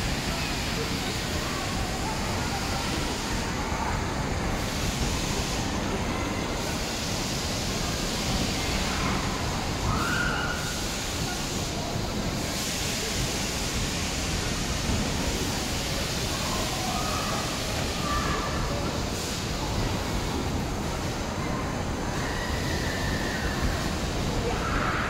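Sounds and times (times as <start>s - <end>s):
funfair ride rushing noise: 0.0s - 25.0s.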